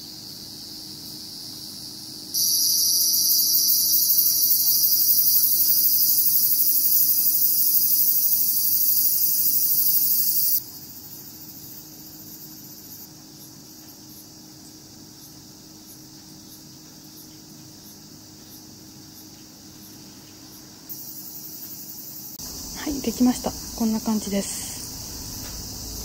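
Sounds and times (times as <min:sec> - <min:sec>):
cicada buzzing song: 0:00.0 - 0:26.0
faint insect chirring: 0:00.0 - 0:26.0.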